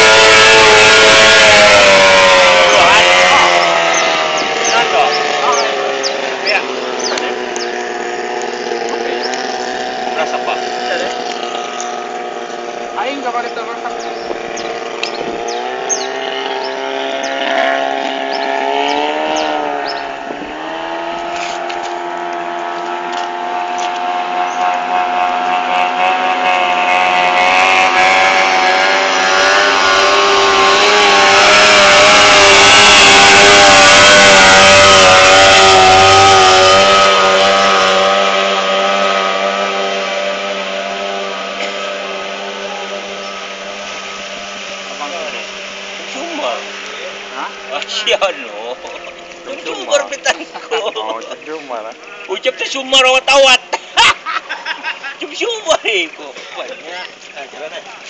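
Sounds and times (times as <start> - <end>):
outboard boat engine running: 0.0 - 58.0.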